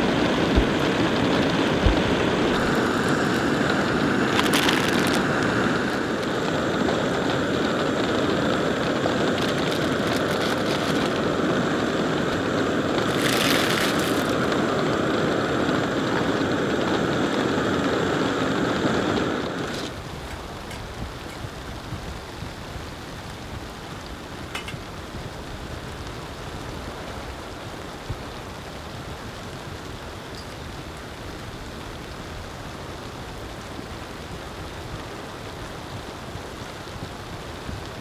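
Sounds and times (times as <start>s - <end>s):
camp stove burner hissing: 0.0s - 38.0s.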